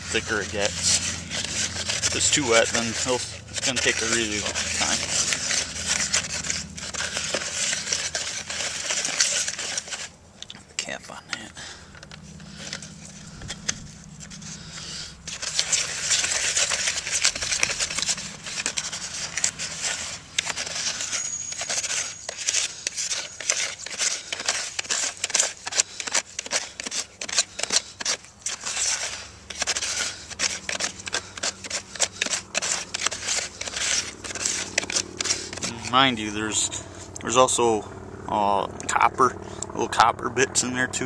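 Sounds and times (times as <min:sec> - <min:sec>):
stick scraping cement mix: 0:00.0 - 0:37.7.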